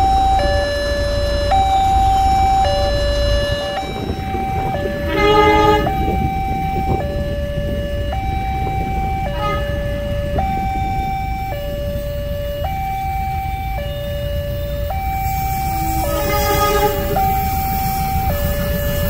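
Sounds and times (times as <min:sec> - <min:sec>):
train rumble approaching: 0:00.0 - 0:19.0
two-tone level-crossing alarm: 0:00.0 - 0:19.0.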